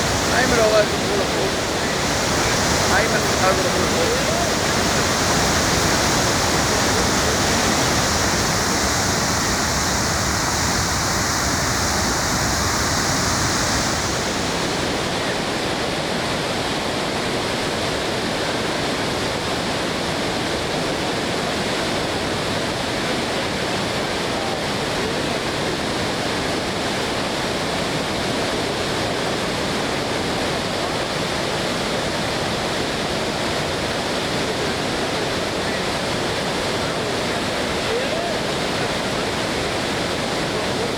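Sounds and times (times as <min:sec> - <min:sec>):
floodwater roaring over falls: 0:00.0 - 0:40.9.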